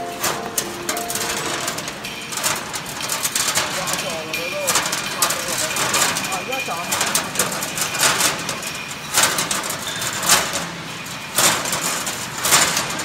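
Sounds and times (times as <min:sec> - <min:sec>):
fence machine weaving wire: 0:00.0 - 0:13.0.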